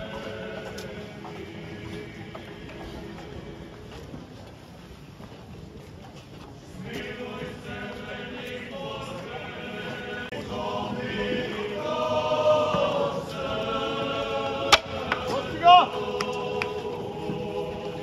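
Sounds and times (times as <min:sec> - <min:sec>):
group singing a slow hymn: 0:00.0 - 0:04.2, 0:06.7 - 0:18.0.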